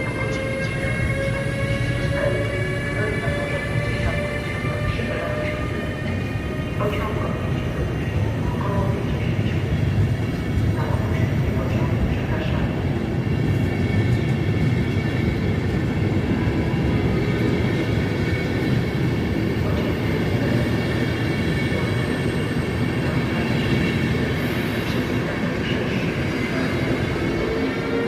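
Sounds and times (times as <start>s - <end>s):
train rumbling on rails: 0.0s - 28.0s.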